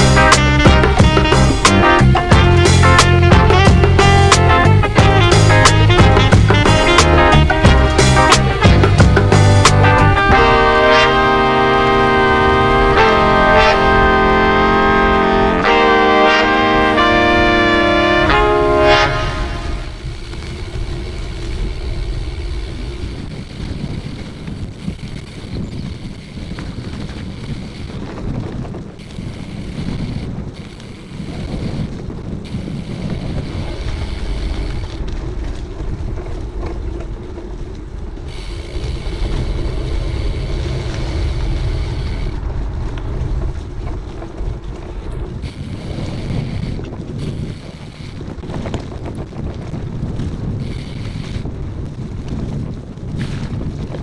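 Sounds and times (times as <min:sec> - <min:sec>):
bike rolling on gravel: 0:00.0 - 0:54.0
wind buffeting microphone: 0:00.0 - 0:54.0.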